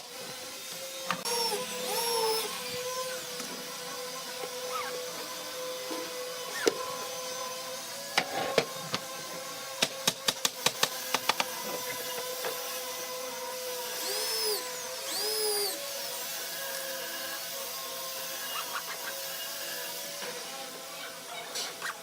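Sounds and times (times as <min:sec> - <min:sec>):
power tool whines: 0:00.0 - 0:10.0, 0:10.6 - 0:22.0.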